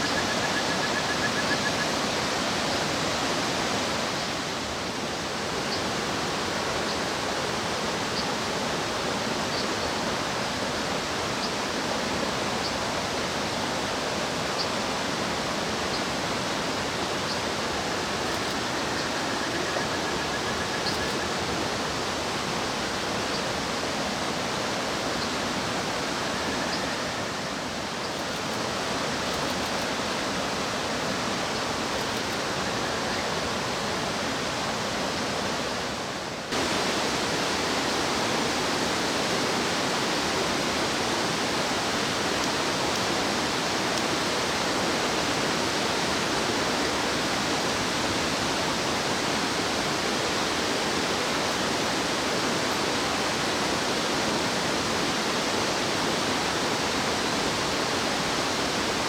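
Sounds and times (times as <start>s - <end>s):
rushing stream water: 0.0s - 59.0s.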